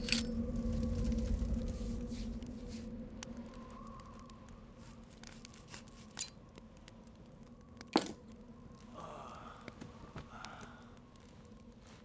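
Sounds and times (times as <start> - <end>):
faint clicks of small objects: 0.0 - 12.0.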